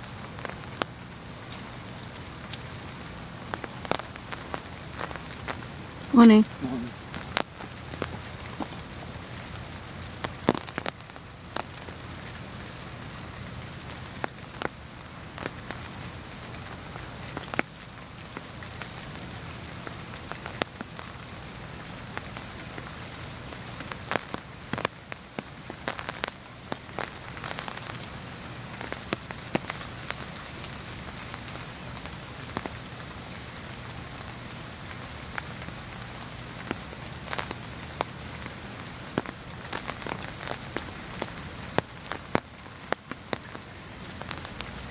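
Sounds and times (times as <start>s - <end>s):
raindrops tapping close by: 0.0s - 44.9s
steady rain hiss: 0.0s - 44.9s.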